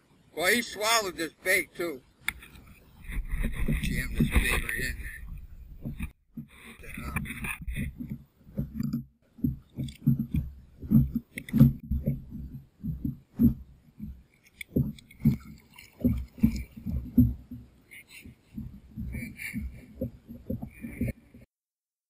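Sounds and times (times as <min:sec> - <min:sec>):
low thumps and knocks: 0:02.5 - 0:21.5.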